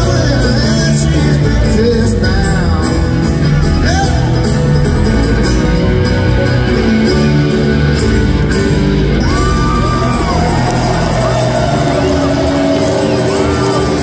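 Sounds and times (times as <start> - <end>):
bluegrass band playing: 0.0 - 14.0.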